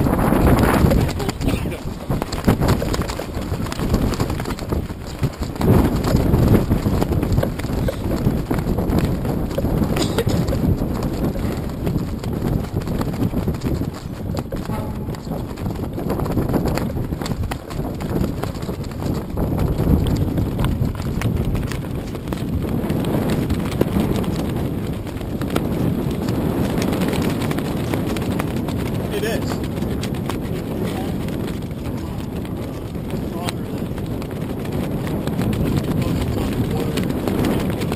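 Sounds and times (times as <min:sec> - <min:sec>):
harbour water: 0:00.0 - 0:37.9
wind rumble: 0:00.0 - 0:37.9.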